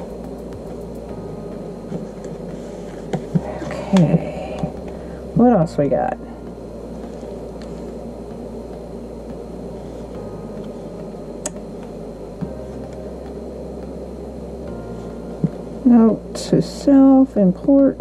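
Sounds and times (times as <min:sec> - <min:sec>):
low background hum and hiss: 0:00.0 - 0:18.0.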